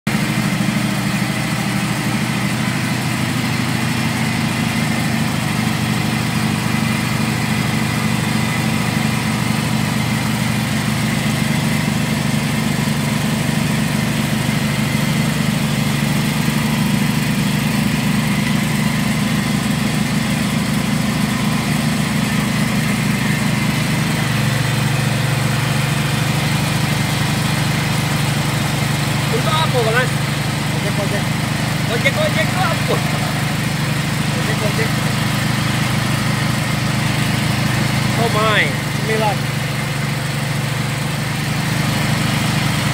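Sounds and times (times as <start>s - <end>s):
diesel engine running: 0.1s - 42.9s
grinding mill: 0.1s - 42.9s.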